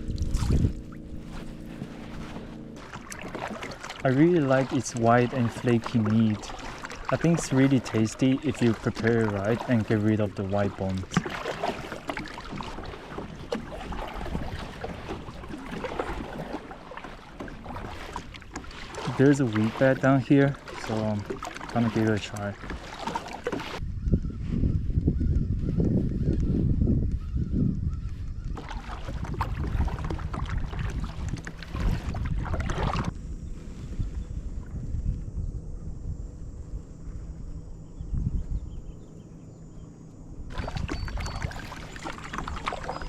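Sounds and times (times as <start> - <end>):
water around a kayak: 0.0 - 43.0
wind on microphone: 0.0 - 43.0.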